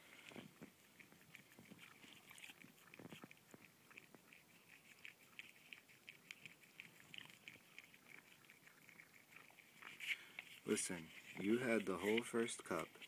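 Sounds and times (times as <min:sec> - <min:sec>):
cat licking: 0:00.0 - 0:13.0.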